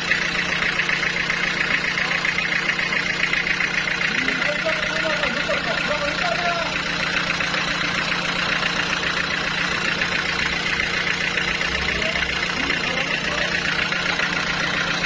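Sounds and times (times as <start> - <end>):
fast mechanical rattle: 0.0 - 15.0.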